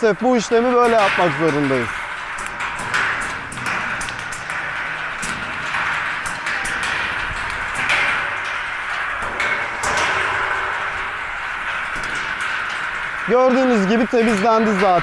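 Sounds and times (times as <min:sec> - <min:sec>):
steel drum turning: 0:00.0 - 0:15.0.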